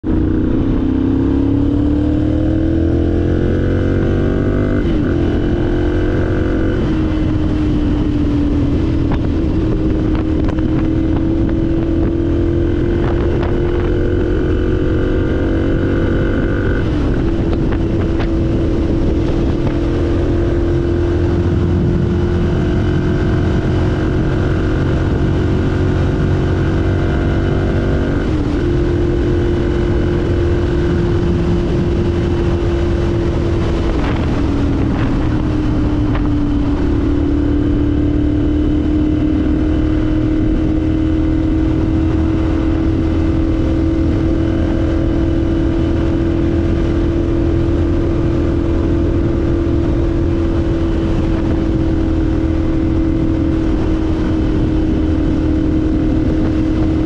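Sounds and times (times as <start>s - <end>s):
motorcycle engine at road speed: 0.0s - 57.0s.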